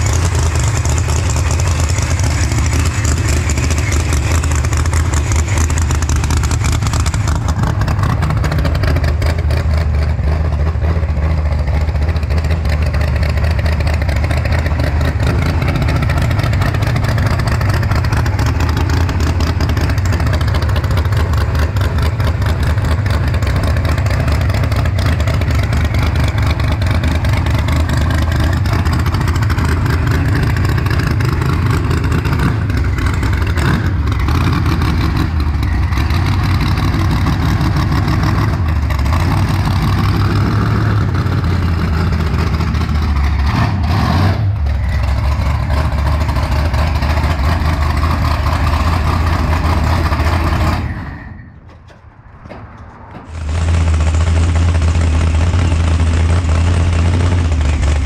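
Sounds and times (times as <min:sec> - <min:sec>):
loud engine choppy idle: 0:00.0 - 0:51.5, 0:53.2 - 0:58.0.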